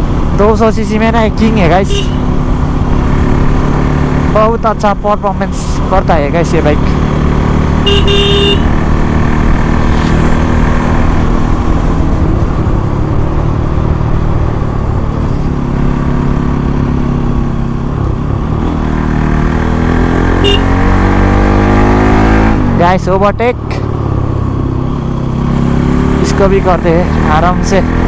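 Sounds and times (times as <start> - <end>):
motorcycle engine running hard: 0.0 - 28.0.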